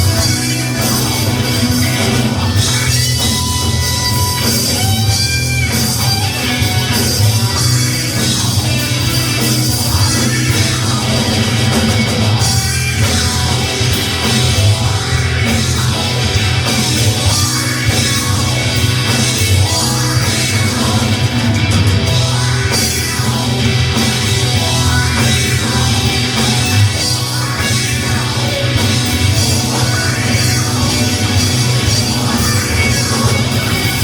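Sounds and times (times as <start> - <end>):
drums playing: 0.0 - 34.0
electric guitar: 0.0 - 34.0
rock band music: 0.0 - 34.0.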